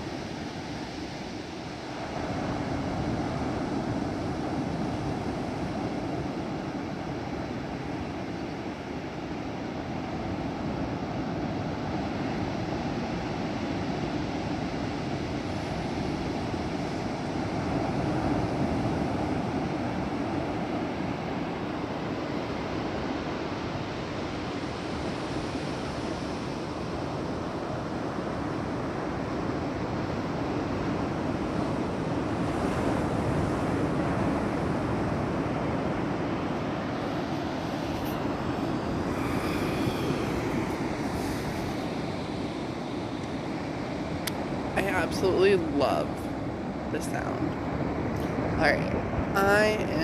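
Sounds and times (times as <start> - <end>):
ocean surf breaking on beach: 0.0 - 50.0.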